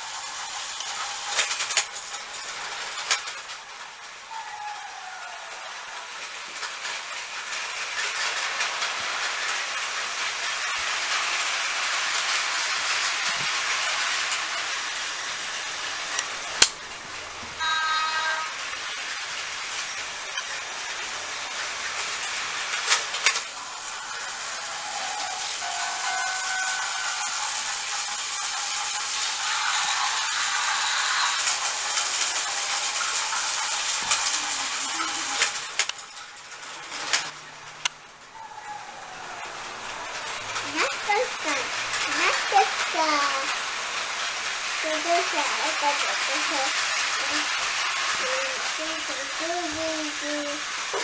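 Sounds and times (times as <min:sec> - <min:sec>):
toy train motors and wheels: 0:00.0 - 0:51.0.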